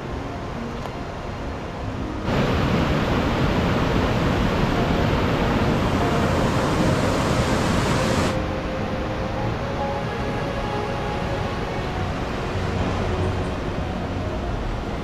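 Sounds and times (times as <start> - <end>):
water rushing: 1.8 - 15.0.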